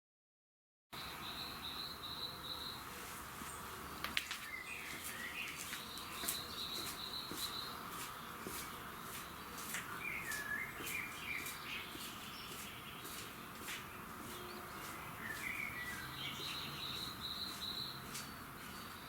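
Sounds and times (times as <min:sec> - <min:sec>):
birds warbling: 0:01.0 - 0:19.0
insects hissing: 0:01.0 - 0:19.0.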